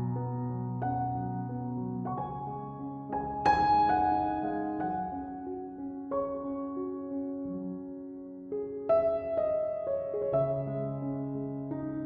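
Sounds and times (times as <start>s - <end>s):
slow soft piano music: 0.0s - 12.0s.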